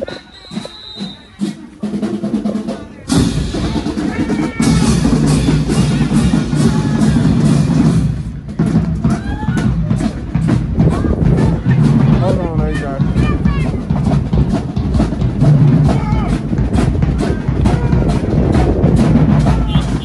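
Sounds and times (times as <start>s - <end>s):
drumline playing fast cadence: 0.0s - 20.0s
voices calling out: 0.0s - 20.0s.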